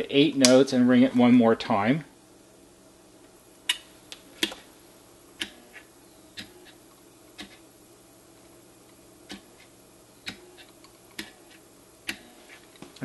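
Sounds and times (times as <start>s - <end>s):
faint motor hum: 0.0s - 13.0s.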